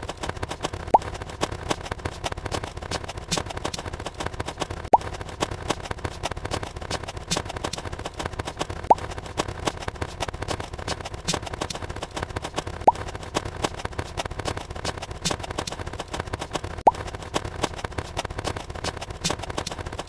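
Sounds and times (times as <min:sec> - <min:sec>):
dense crackle of clicks: 0:00.0 - 0:20.0.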